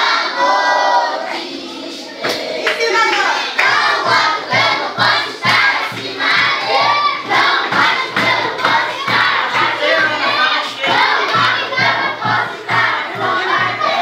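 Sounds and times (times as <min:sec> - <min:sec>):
children singing in unison: 0:00.0 - 0:02.8, 0:03.4 - 0:14.0.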